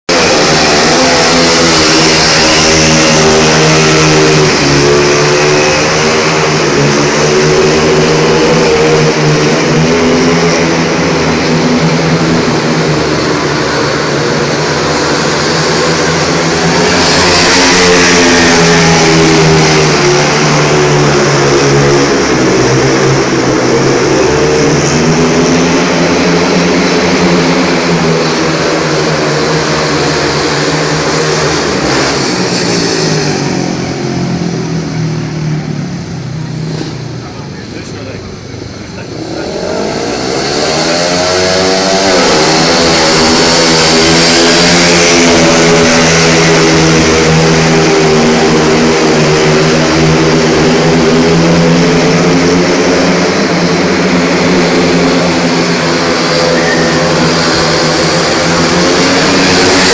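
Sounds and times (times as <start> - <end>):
motorcycle engines racing: 0.1 - 59.9.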